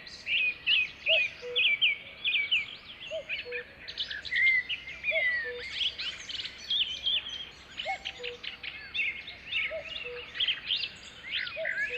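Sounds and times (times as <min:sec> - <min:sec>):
birds singing and chirping: 0:00.0 - 0:11.9.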